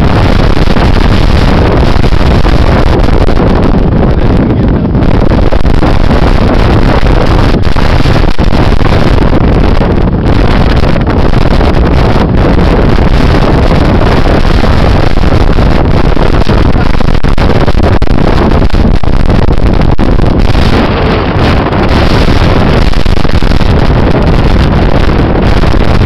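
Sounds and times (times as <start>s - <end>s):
strong wind buffeting microphone: 0.0s - 26.0s
surf breaking on beach: 0.0s - 26.0s.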